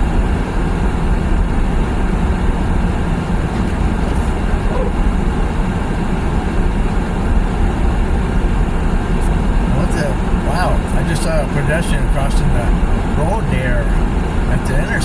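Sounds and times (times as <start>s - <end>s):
car driving on snowy road: 0.0s - 15.0s.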